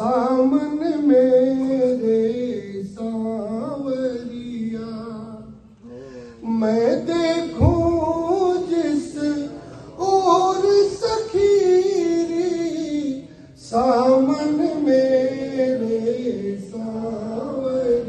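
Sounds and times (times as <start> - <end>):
man singing into a microphone: 0.0 - 5.7, 6.3 - 18.0.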